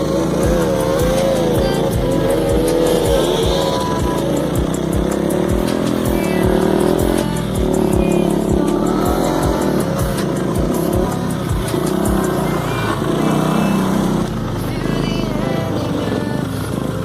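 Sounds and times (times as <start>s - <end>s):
background music with steady beat: 0.0s - 17.0s
motorcycle engines revving: 0.0s - 17.0s.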